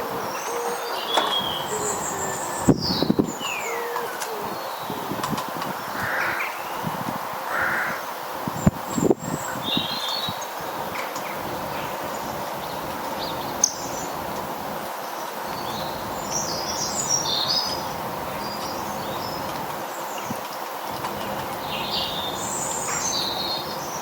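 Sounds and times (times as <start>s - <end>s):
small birds chirping: 0.0s - 24.0s
steady background hiss: 0.0s - 24.0s.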